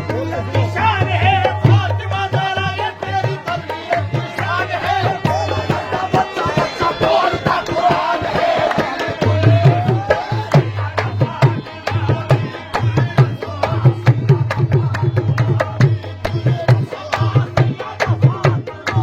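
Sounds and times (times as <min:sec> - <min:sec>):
hand drum fast rhythm: 0:00.0 - 0:19.0.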